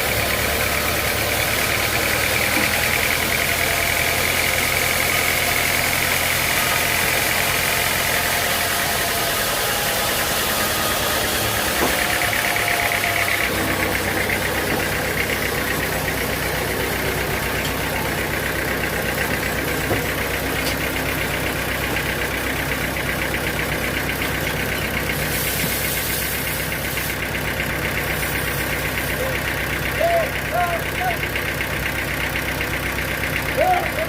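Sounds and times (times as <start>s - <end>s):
engine running with low throb: 0.0s - 34.0s.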